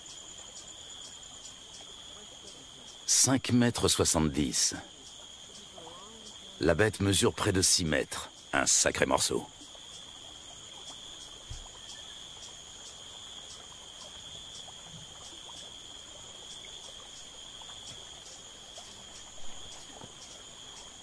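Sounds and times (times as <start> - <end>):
insect high continuous trill: 0.0 - 21.0
pulsing insect call: 0.0 - 21.0.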